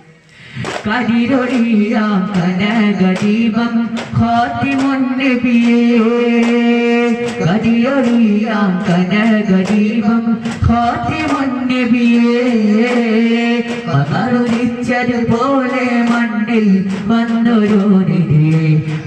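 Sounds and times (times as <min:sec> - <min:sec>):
person singing devotional song: 0:00.0 - 0:19.0
frame drum strikes: 0:00.6 - 0:19.0.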